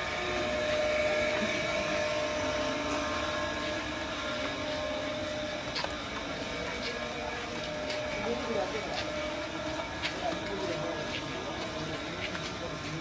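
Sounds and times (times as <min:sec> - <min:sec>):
heavy rain hissing on street: 0:00.0 - 0:13.0
motor hum: 0:00.0 - 0:13.0.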